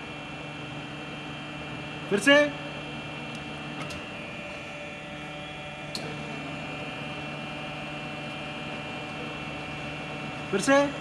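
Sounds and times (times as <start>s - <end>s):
grinder machine humming: 0.0s - 11.0s.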